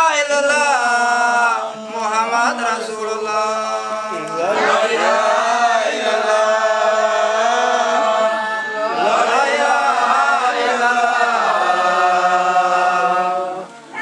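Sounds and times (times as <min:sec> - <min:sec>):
men chanting in held notes: 0:00.0 - 0:14.0.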